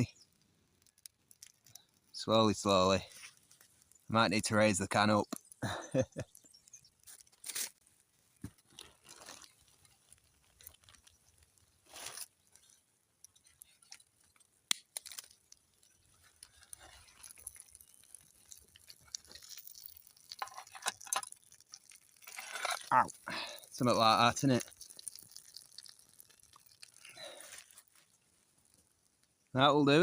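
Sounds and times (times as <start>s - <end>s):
small wood fire crackling: 0.0s - 30.0s.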